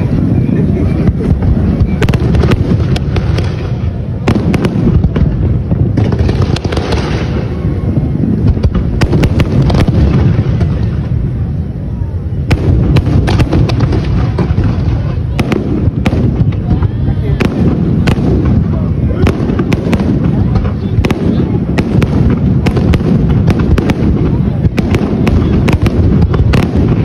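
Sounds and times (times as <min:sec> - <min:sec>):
low rumble of firework bursts: 0:00.0 - 0:27.0
sharp firework cracks: 0:00.9 - 0:11.3, 0:12.4 - 0:27.0.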